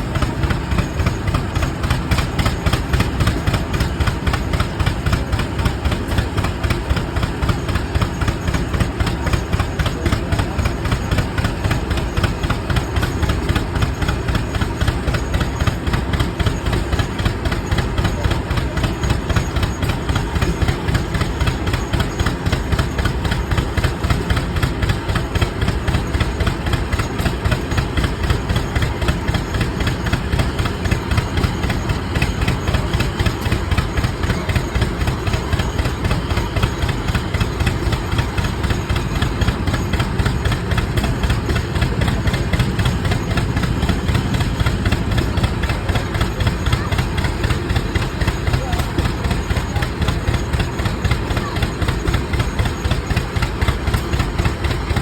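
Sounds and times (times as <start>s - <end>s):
tractor engines exhaust beat: 0.0s - 55.0s.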